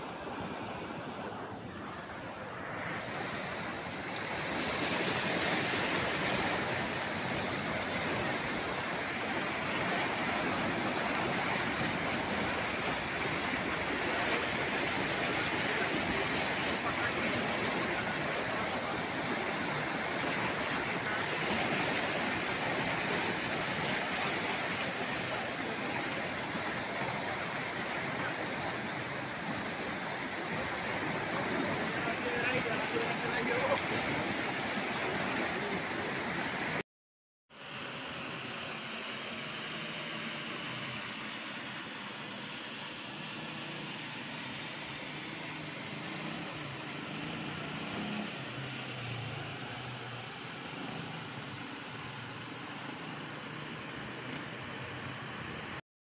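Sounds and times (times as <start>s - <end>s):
floodwater rushing and splashing: 0.0s - 36.8s, 37.5s - 55.8s.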